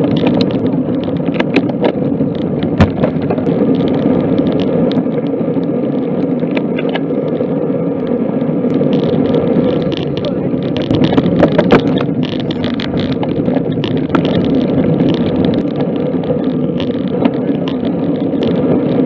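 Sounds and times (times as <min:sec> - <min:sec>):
bicycle clicks and rattles: 0:00.0 - 0:19.0
wind and road noise: 0:00.0 - 0:19.0.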